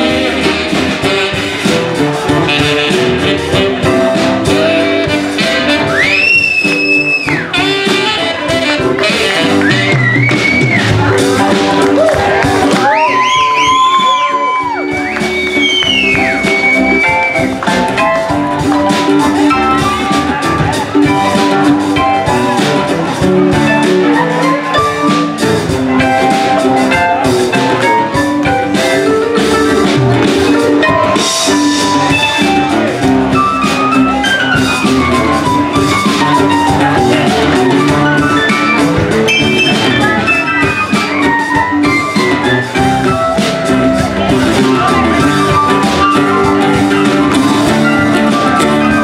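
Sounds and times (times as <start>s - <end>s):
acoustic guitar: 0.0s - 49.0s
bass guitar: 0.0s - 49.0s
drum kit: 0.0s - 49.0s
keyboard: 0.0s - 49.0s
saxophone: 0.0s - 49.0s.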